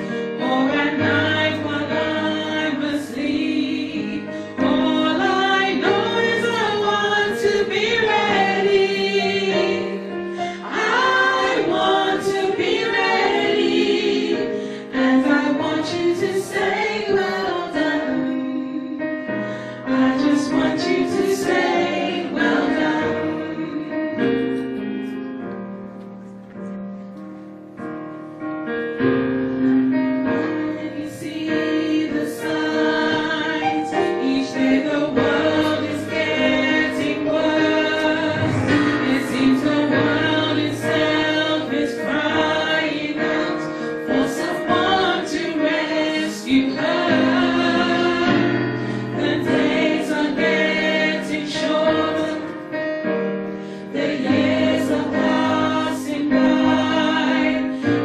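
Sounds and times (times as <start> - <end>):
congregation singing a hymn: 0.0 - 25.5, 28.9 - 58.0.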